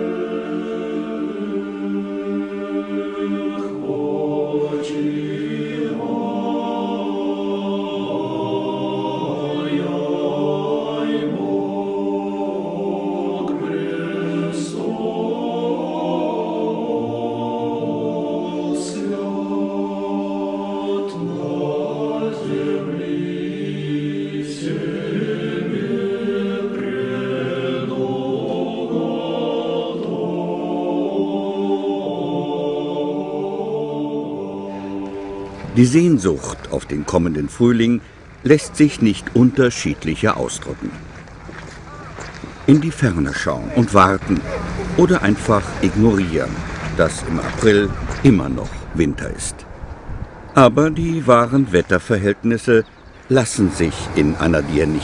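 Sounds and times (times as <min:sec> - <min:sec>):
choir singing a cappella chant: 0:00.0 - 0:41.0, 0:42.6 - 0:48.5, 0:53.6 - 0:55.0.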